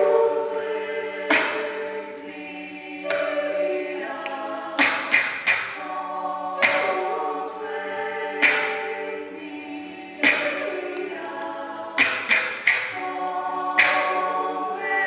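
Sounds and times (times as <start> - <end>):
choir singing: 0.0 - 15.0
vocal percussion hits: 0.0 - 15.0.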